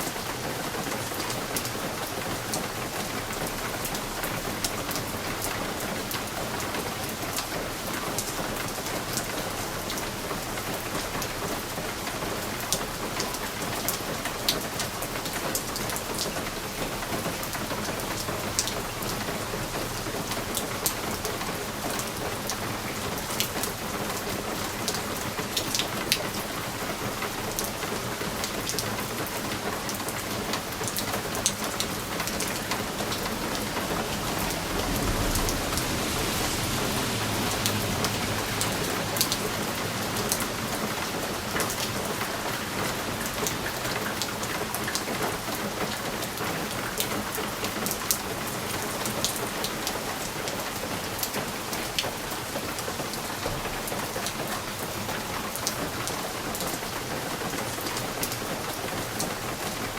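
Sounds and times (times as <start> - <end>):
rain pattering on window glass: 0.0 - 59.9.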